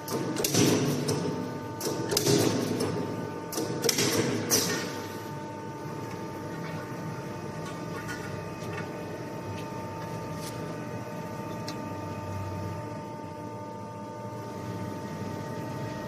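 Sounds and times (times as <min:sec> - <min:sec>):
hydraulic machine hum and whine: 0:00.0 - 0:16.0.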